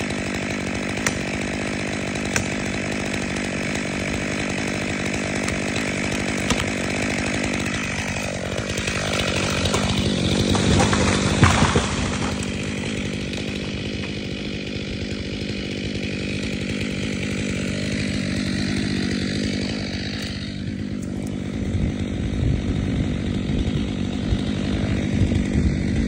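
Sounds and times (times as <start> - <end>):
chainsaw engine running: 0.0 - 26.0.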